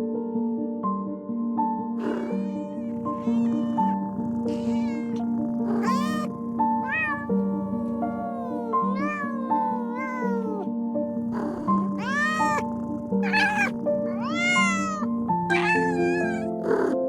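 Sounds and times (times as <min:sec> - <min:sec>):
cat meowing: 0:02.0 - 0:10.6, 0:11.2 - 0:17.0.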